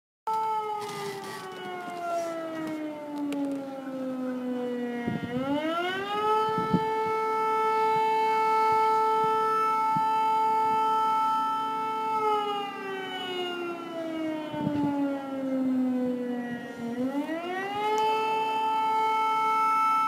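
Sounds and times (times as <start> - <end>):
civil defence siren wailing: 0.3 - 20.0.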